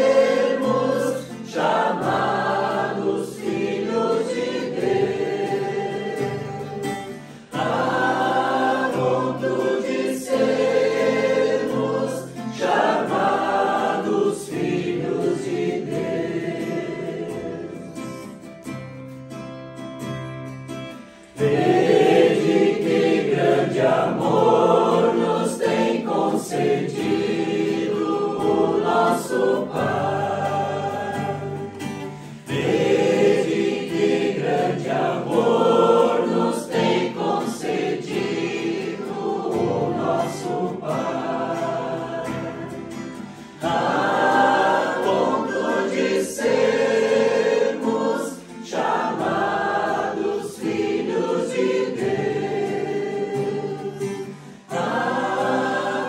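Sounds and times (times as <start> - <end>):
group singing in chorus: 0.0 - 18.5, 21.1 - 56.0.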